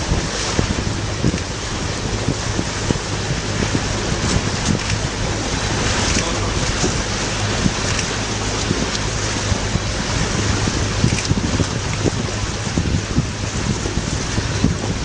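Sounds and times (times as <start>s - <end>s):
water splashing against rocks: 0.0s - 15.0s.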